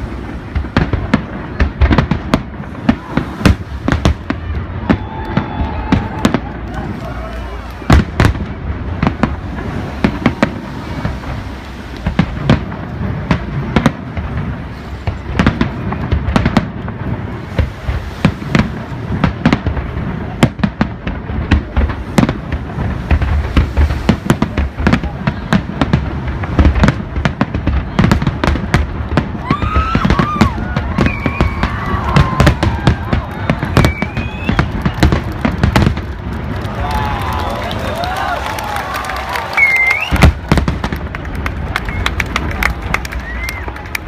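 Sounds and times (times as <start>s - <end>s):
fireworks bursting: 0.0s - 44.0s.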